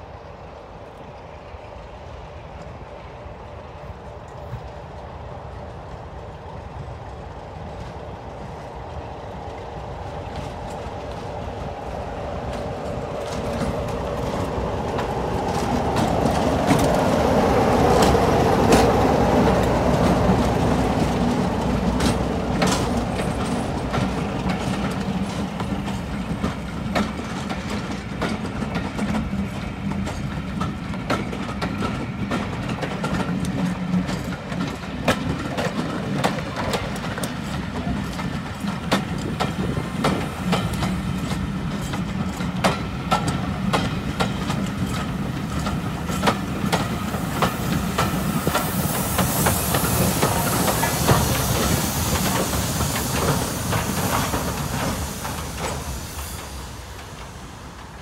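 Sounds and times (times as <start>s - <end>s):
diesel locomotive engine: 0.0s - 58.0s
train wheels clicking over rail joints: 3.9s - 58.0s.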